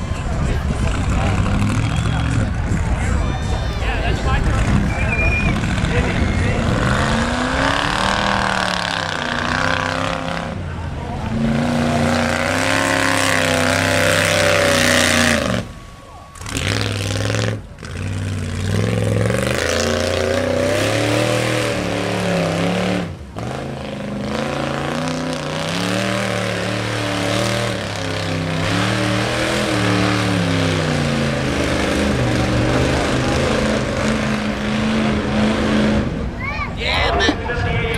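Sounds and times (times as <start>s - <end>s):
truck engine revving: 0.0s - 36.4s.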